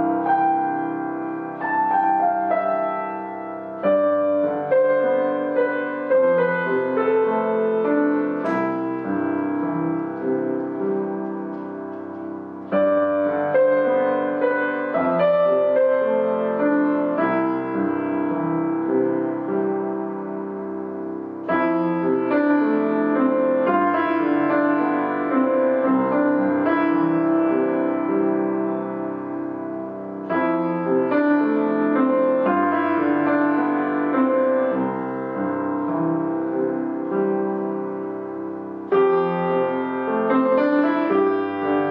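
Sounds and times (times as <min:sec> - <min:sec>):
piano playing slow chords: 0:00.0 - 0:41.9.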